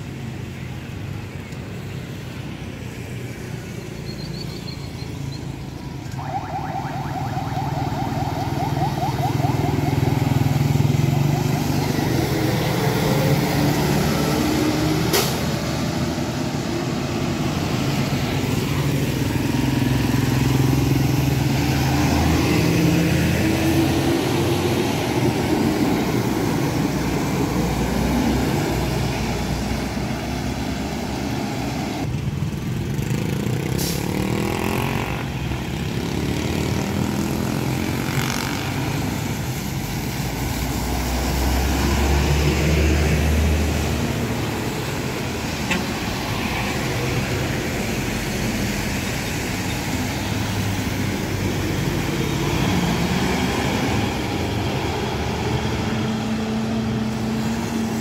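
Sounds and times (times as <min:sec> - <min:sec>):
buses driving past: 0:00.0 - 0:58.0
tyres hissing on wet road: 0:09.2 - 0:58.0.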